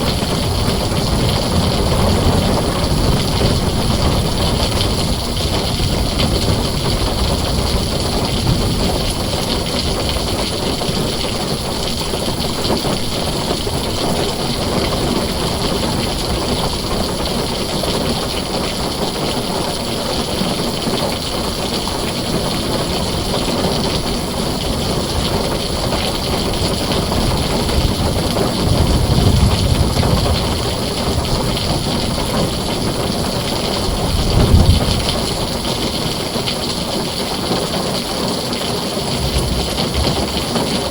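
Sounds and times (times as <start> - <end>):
low thunder rumbles: 0.0 - 37.8, 39.0 - 40.9
heavy rain on a tin roof: 0.0 - 40.9.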